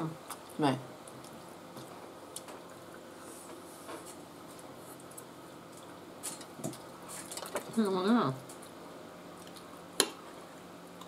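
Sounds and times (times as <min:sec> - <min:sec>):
soft chewing: 0:00.2 - 0:07.8, 0:08.4 - 0:11.0.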